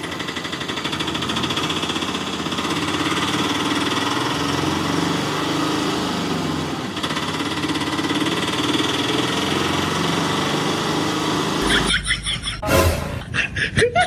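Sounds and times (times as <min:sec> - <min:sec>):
small engine chugging: 0:00.0 - 0:12.6.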